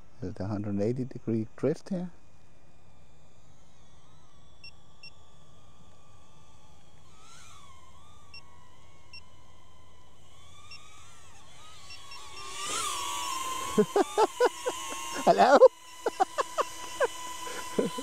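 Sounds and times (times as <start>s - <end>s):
drone propellers whining: 2.4s - 18.0s.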